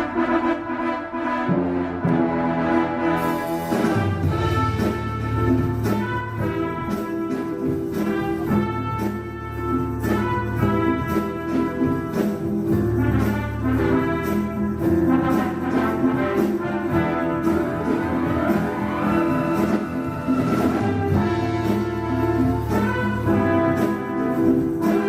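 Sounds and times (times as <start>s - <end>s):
brass: 0.0s - 25.0s.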